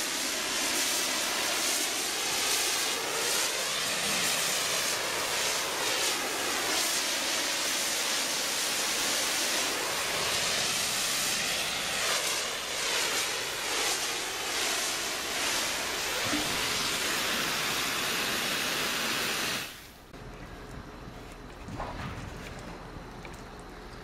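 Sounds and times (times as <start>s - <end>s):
pressure washer spraying: 0.0s - 20.0s.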